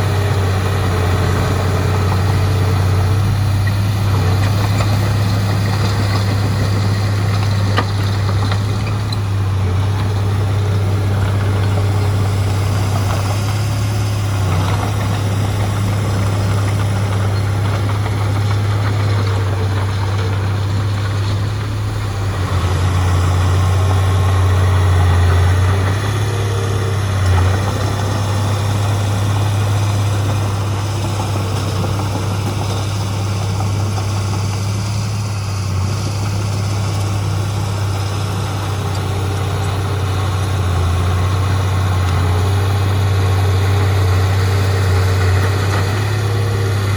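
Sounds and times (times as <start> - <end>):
heavy diesel engine humming: 0.0 - 46.9.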